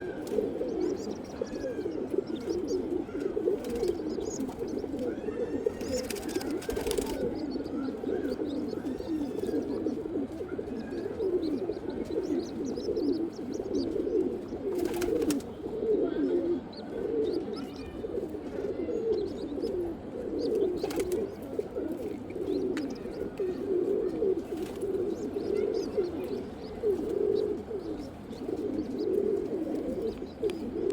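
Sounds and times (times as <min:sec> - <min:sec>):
pigeons cooing: 0:00.0 - 0:30.9.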